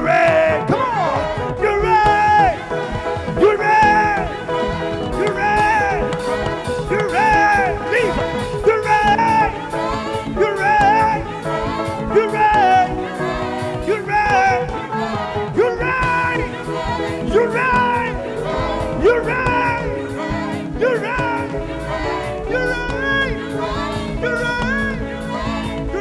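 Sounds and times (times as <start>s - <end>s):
choir voices: 0.0s - 26.0s
gospel music with singing: 0.0s - 26.0s.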